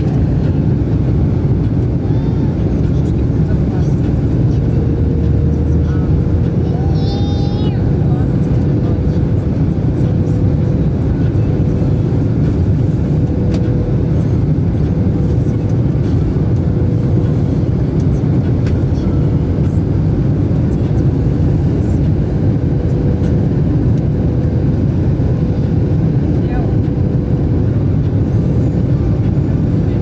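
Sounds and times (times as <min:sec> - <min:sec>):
jet engines and airflow rumble: 0:00.0 - 0:30.0
mid-pitched hum: 0:00.0 - 0:30.0.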